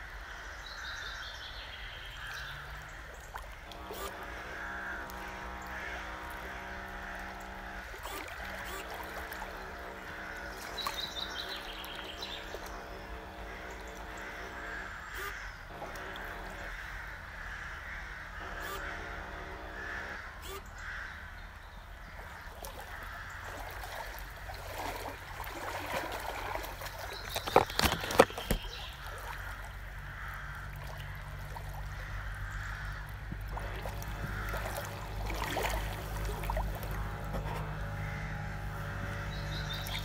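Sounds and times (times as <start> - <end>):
bird calling: 0.0 - 40.0
small boat motor humming: 0.0 - 40.0
water washing along hull: 2.0 - 16.7, 22.1 - 40.0.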